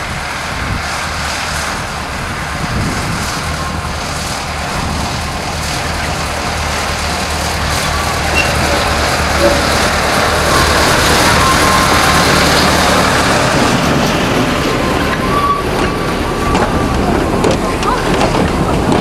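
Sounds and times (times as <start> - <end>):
diesel locomotive engine drone: 0.0 - 19.0
train running noise: 0.0 - 19.0.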